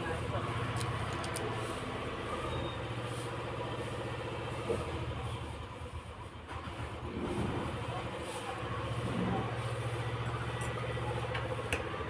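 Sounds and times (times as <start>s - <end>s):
engine humming with fast pulse: 0.0s - 12.0s.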